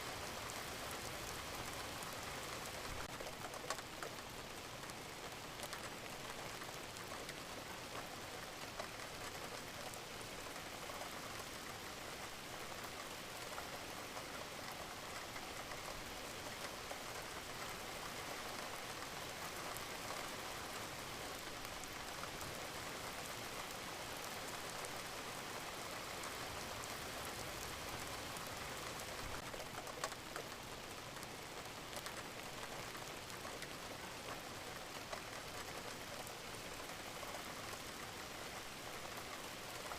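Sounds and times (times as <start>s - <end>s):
steady rain falling: 0.0s - 39.9s
raindrops ticking: 0.4s - 39.9s.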